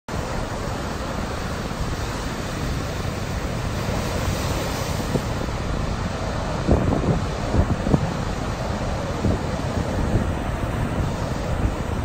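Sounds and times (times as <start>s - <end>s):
surf breaking on a beach: 0.1s - 12.0s
wind on the microphone: 0.9s - 12.0s.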